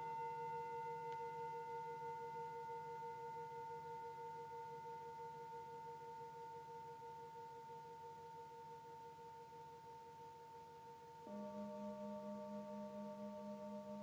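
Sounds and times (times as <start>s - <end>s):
singing bowl ringing: 0.0s - 14.0s.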